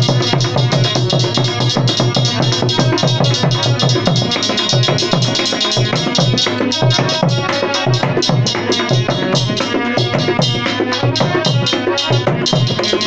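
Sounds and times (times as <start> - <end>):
hand drum beat: 0.0 - 13.0
sustained melody line: 0.0 - 13.0.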